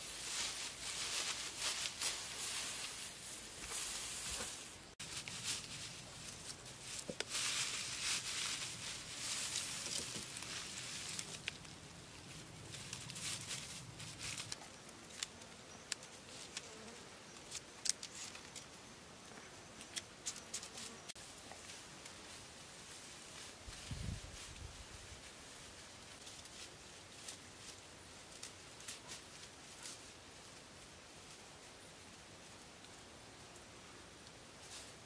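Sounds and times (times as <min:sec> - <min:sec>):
grass and sticks rustling: 0:00.0 - 0:35.0.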